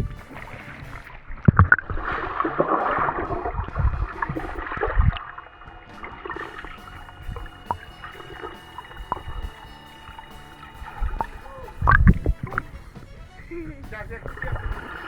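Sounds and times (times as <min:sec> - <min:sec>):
pool water splashing: 0:00.0 - 0:15.0.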